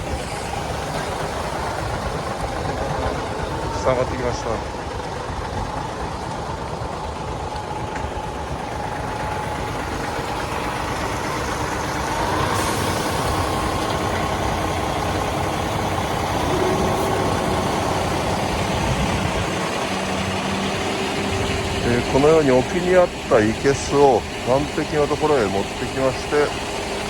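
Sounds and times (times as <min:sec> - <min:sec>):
engine running with faint whine: 0:00.0 - 0:27.0.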